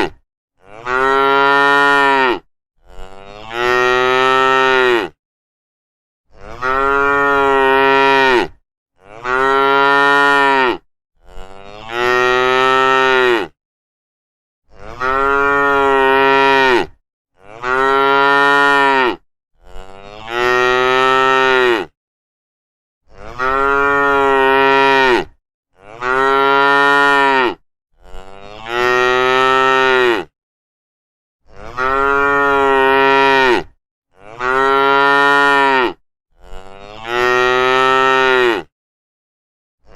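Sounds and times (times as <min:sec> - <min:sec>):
cows mooing: 0:00.6 - 0:05.2, 0:06.4 - 0:13.5, 0:14.8 - 0:21.9, 0:23.2 - 0:30.3, 0:31.6 - 0:38.7.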